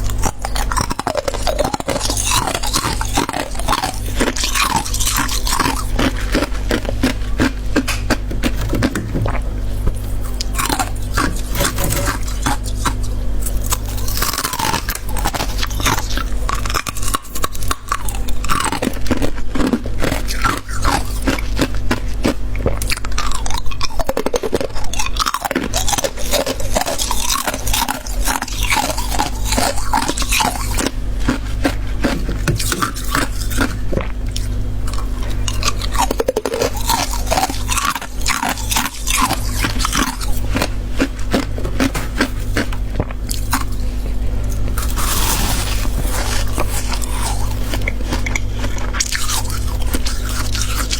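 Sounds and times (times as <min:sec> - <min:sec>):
frost being chewed: 0:00.0 - 0:50.9
steady low hum: 0:00.0 - 0:50.9.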